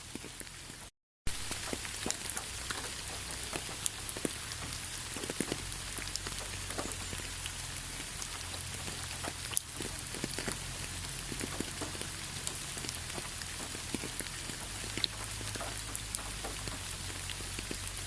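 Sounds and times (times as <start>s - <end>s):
raindrops striking sharply: 0.0s - 18.0s
steady rain falling: 0.0s - 18.0s.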